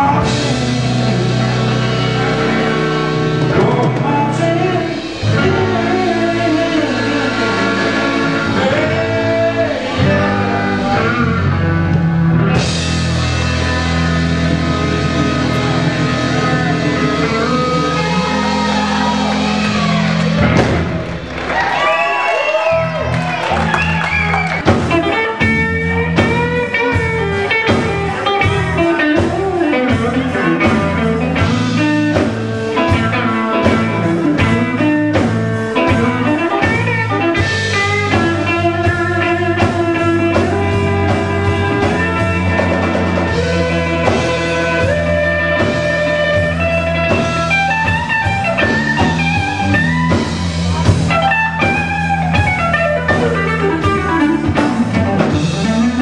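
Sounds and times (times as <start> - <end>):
blues band playing: 0.0 - 56.0
electric guitar with bent notes: 0.0 - 56.0.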